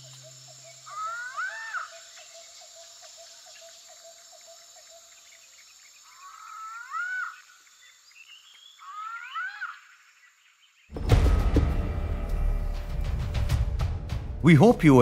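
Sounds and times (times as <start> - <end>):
high insect hiss: 0.0 - 13.8.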